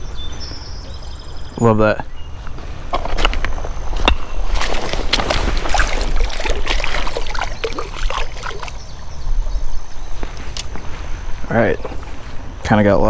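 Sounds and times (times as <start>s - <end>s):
legs wading through creek water: 0.0s - 12.9s.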